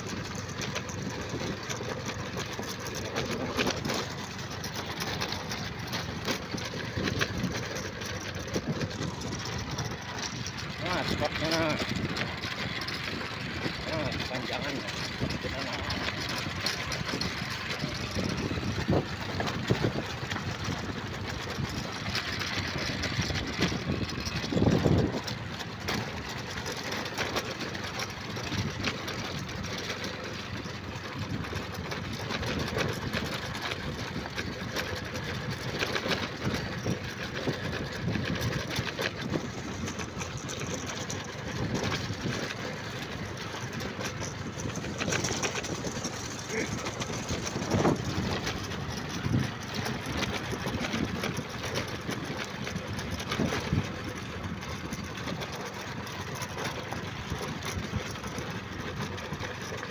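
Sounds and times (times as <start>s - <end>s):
motor running: 0.0s - 59.9s.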